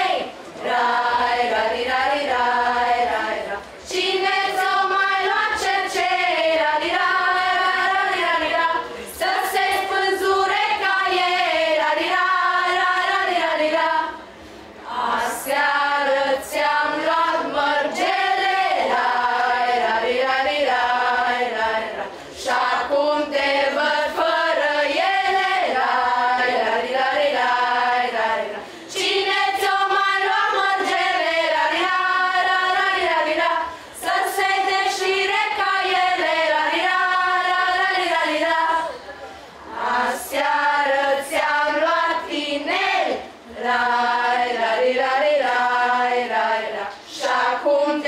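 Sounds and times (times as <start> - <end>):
young voices singing folk song: 0.0 - 48.0.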